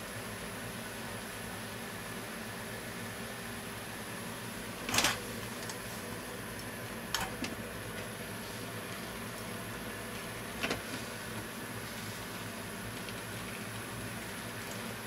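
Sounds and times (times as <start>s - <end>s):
sauce bubbling in frying pan: 0.0s - 15.0s.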